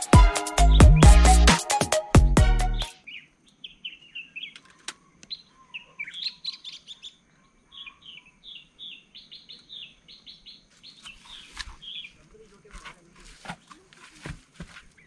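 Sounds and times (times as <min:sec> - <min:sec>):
wild birds chirping: 0:02.7 - 0:15.0.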